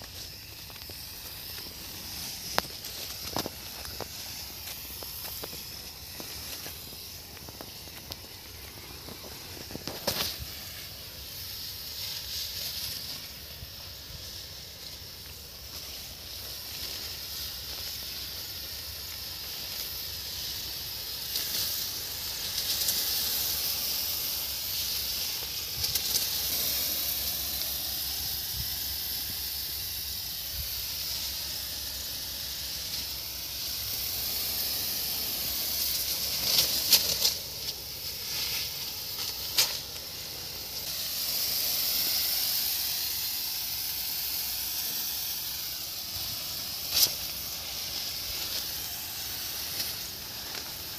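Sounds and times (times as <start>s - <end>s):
sprayer hissing: 0.0s - 50.9s.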